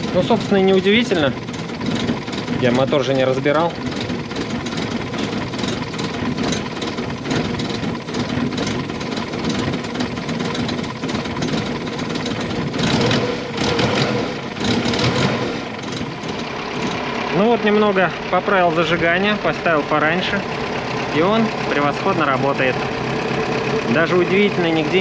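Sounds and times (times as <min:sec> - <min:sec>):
car engine idling unevenly: 0:00.0 - 0:25.0.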